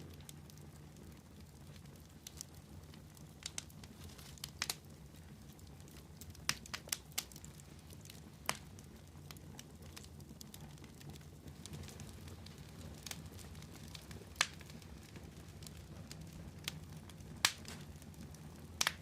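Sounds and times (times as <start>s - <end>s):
bonfire logs crackling: 0.0s - 19.0s.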